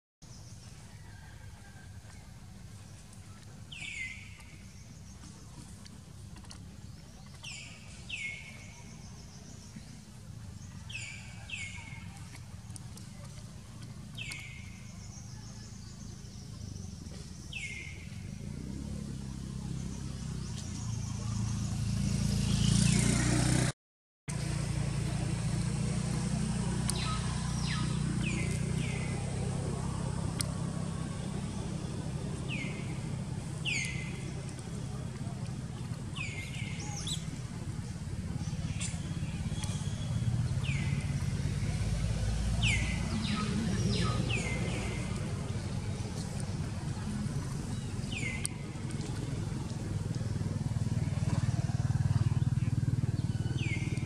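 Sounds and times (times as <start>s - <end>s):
low outdoor rumble: 0.2s - 23.7s, 24.3s - 54.0s.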